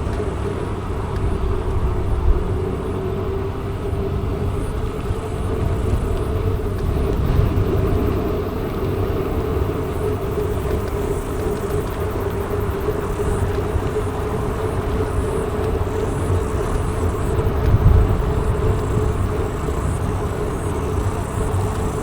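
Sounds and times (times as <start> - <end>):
bike tyres rumbling: 0.0 - 22.0.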